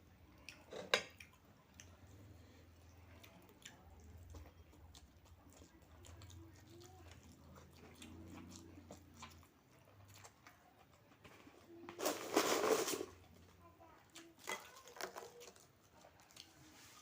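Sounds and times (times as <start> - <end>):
faint low hum: 0.0 - 17.0
person chewing food: 0.2 - 11.4, 14.1 - 17.0.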